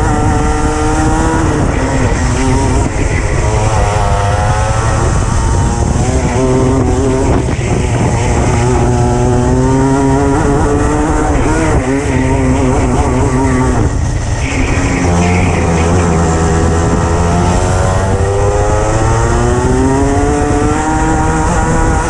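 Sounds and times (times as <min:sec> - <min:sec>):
chassis and wind rumble: 0:00.0 - 0:22.0
kart engine: 0:00.0 - 0:22.0.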